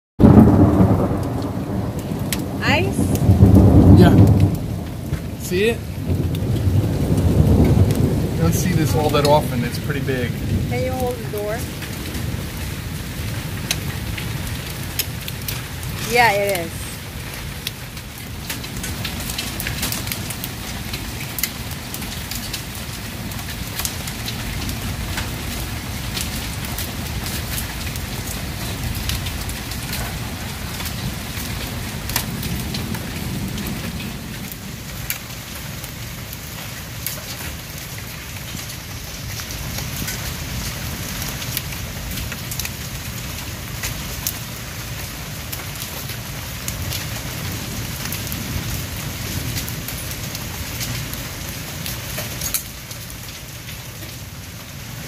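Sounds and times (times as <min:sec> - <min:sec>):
hailstones ticking: 0:00.2 - 0:55.0
rain hissing: 0:00.2 - 0:55.0.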